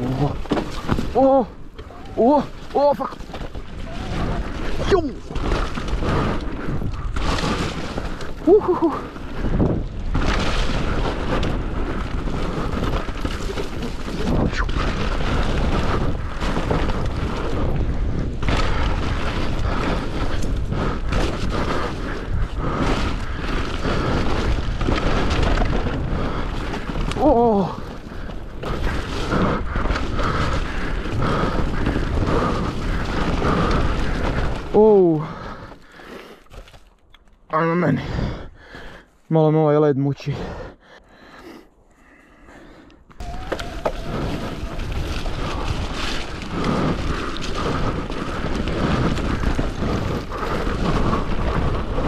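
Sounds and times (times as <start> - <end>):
wind rumble on microphone: 0.0 - 34.8, 43.2 - 52.0
bike rolling on muddy trail: 0.0 - 39.3, 40.4 - 52.0.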